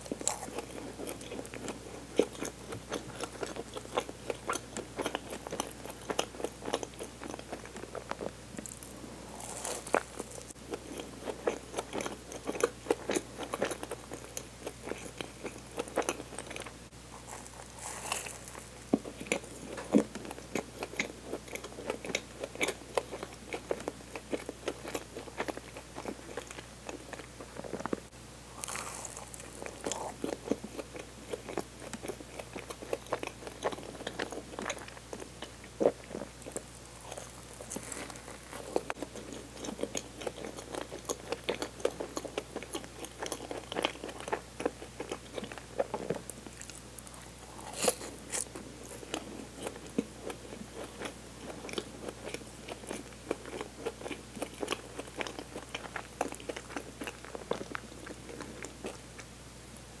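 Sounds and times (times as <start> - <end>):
person chewing cake: 0.0 - 59.3.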